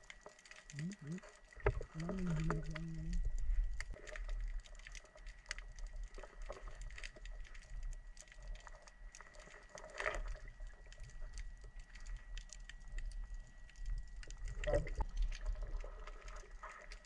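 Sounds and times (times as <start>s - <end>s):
light clicks and crackles: 0.0s - 17.0s.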